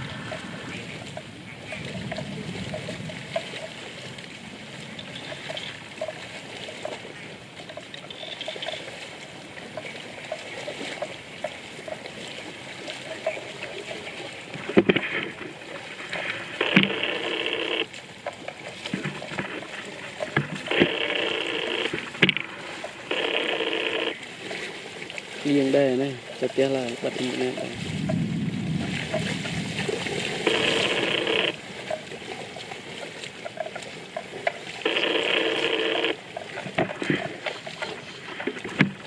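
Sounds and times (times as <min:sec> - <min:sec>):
sharp splashes: 0:00.0 - 0:39.0
water sloshing and trickling: 0:00.0 - 0:39.0.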